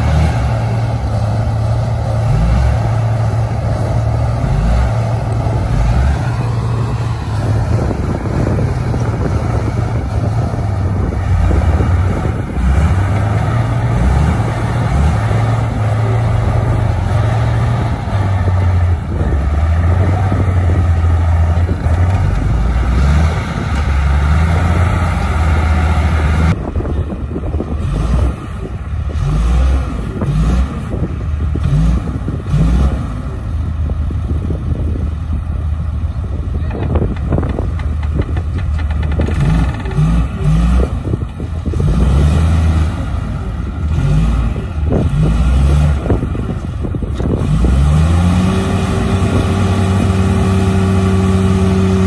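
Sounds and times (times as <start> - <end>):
bulldozer diesel engines under load: 0.0 - 52.0.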